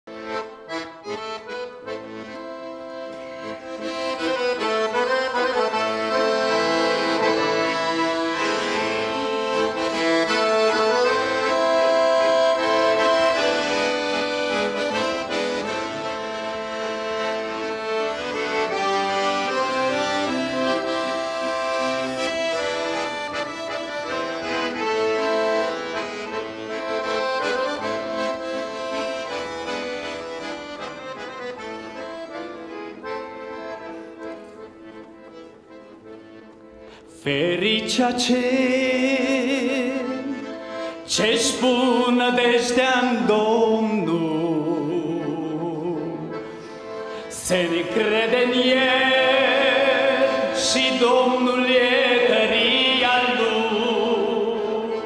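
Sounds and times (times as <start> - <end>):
accordion playing hymn chords: 0.0 - 55.0.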